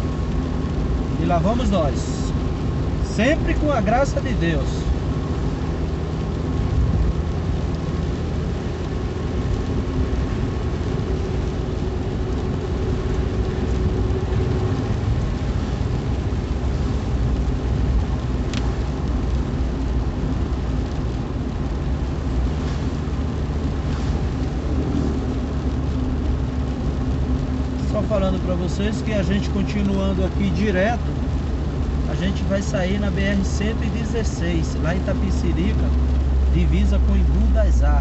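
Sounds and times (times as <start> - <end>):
car driving on wet road: 0.0 - 38.0.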